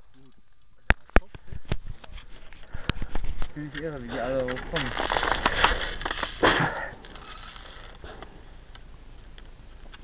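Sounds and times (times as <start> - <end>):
close rustling and crackling: 0.1 - 10.0.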